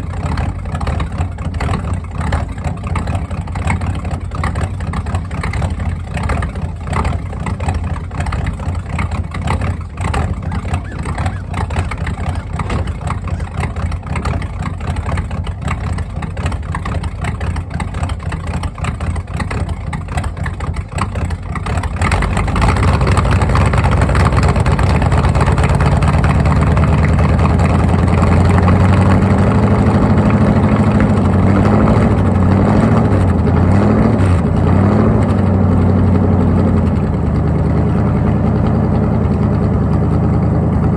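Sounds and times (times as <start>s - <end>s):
engine idling unevenly: 0.0s - 40.9s.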